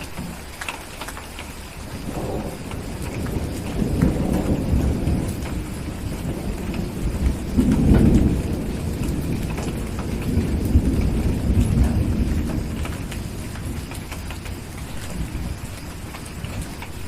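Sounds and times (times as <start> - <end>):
small ticks: 0.0 - 5.6, 6.6 - 17.0
steady rain: 0.0 - 17.0
thunder rumbling: 1.8 - 17.0.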